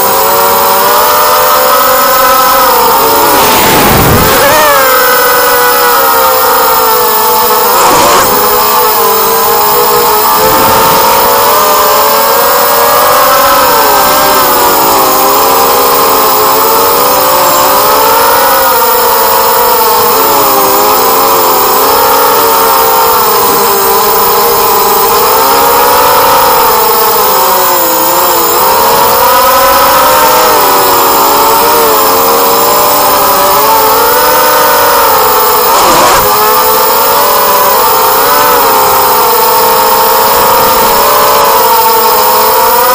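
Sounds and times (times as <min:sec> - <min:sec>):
drone motors whining: 0:00.0 - 0:42.9.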